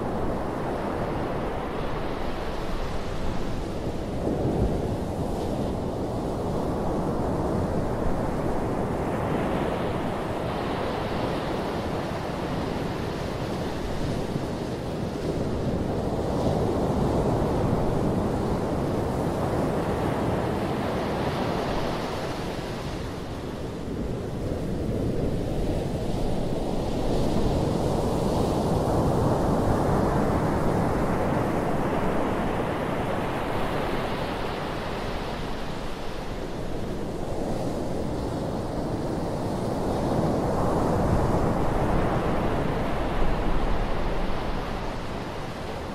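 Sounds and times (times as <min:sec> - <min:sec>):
surf washing on beach: 0:00.0 - 0:45.9.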